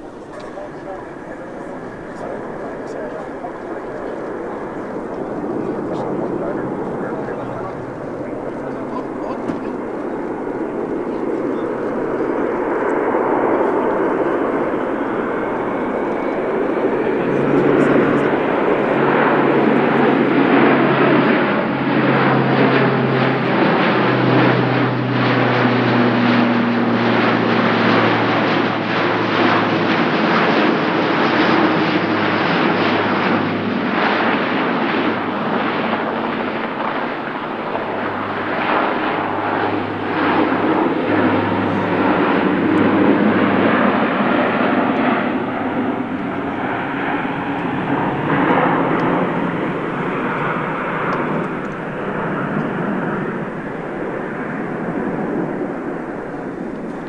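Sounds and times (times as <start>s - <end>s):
propeller aircraft drone overhead: 0.0s - 57.0s.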